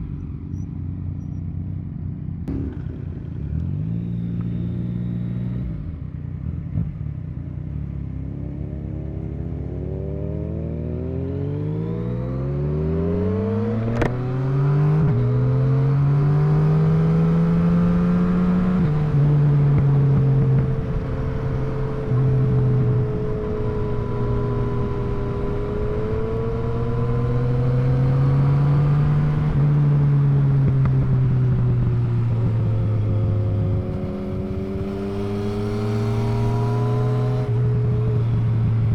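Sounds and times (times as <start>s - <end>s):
motorcycle engine accelerating: 0.2s - 38.9s.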